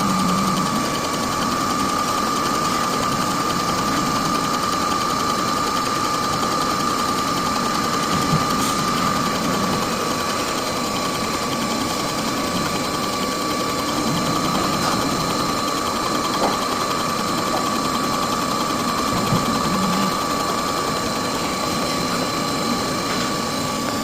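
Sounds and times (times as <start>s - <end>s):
milling machine whining and rattling: 0.0s - 24.0s.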